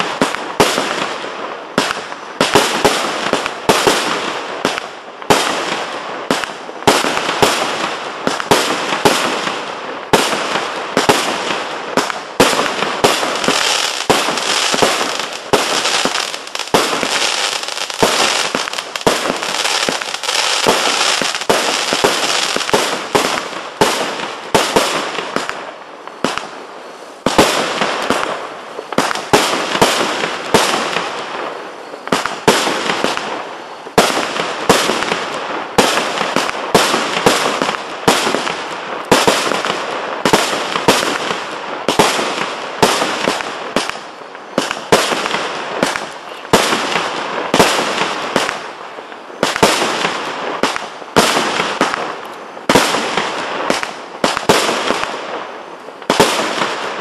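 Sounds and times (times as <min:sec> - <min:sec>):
continuous firework hiss: 0:00.0 - 0:57.0
firework launch reports and bursts: 0:00.0 - 0:57.0.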